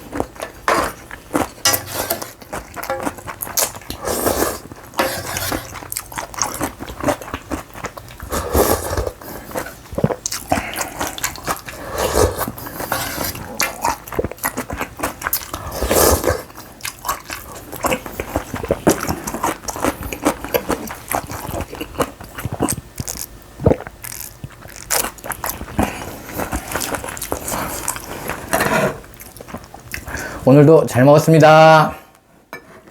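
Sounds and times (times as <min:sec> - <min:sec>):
chewing and crunching food: 0:00.0 - 0:30.4.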